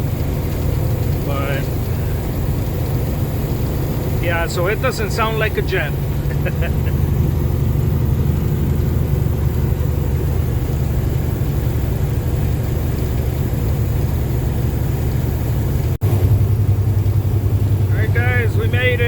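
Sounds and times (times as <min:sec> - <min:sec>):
road noise: 0:00.0 - 0:19.0
truck engine running under load: 0:00.0 - 0:19.0.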